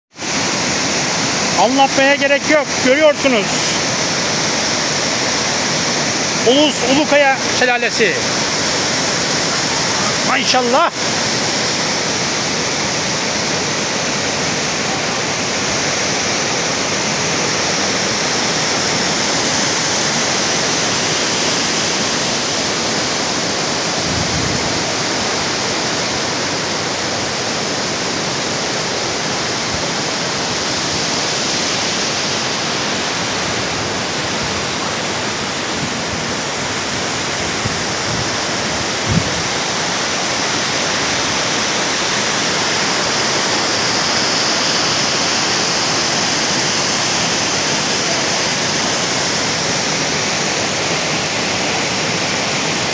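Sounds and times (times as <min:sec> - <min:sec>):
waterfall rushing: 0:00.1 - 0:52.9.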